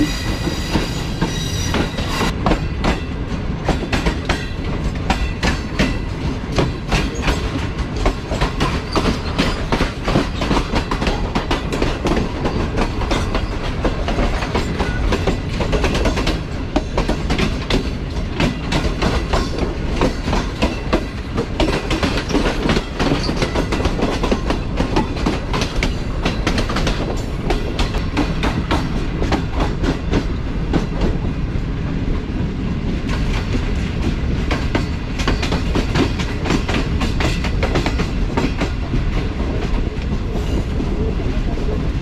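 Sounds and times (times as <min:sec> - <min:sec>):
train wheel and rail rumble: 0:00.0 - 0:42.0.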